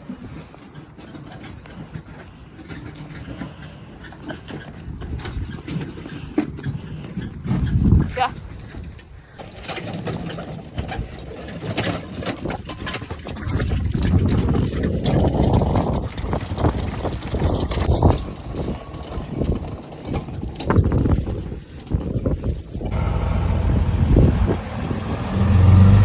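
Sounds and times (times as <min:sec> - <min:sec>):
wind buffeting microphone: 0:01.5 - 0:09.4, 0:12.2 - 0:26.0.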